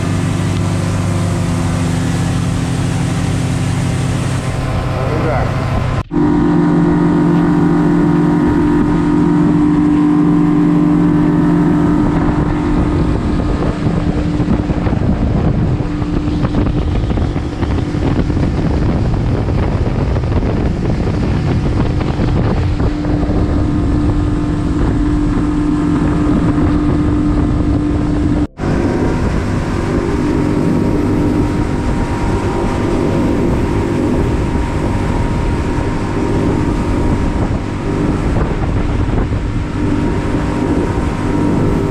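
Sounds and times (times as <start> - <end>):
outboard motor droning: 0.0 - 41.9
rushing water: 0.0 - 41.9
wind: 0.0 - 41.9.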